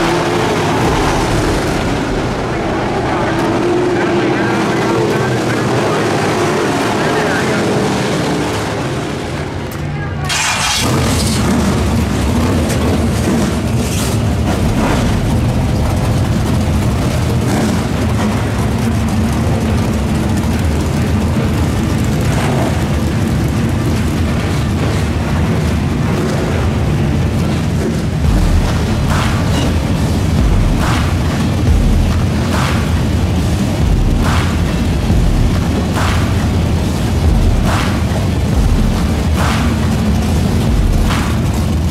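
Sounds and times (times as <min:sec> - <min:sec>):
race car engines running: 0:00.0 - 0:41.9
race cars idling rumble: 0:00.0 - 0:41.9.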